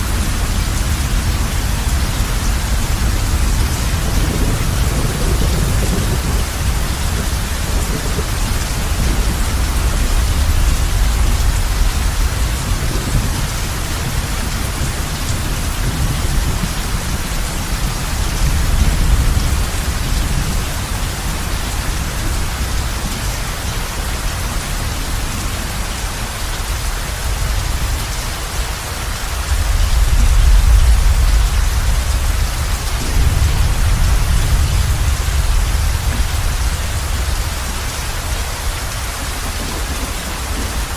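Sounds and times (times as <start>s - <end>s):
heavy rain drumming on a roof: 0.0s - 40.9s
low rolling thunder: 0.0s - 40.9s.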